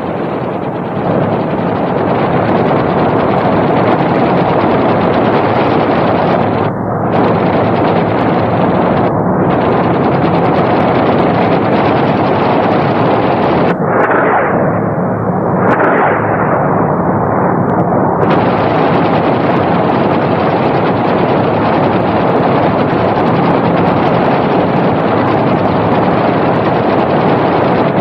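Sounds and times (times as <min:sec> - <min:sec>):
heavy machine-gun fire: 0:00.6 - 0:15.0, 0:15.6 - 0:16.8, 0:18.2 - 0:27.3.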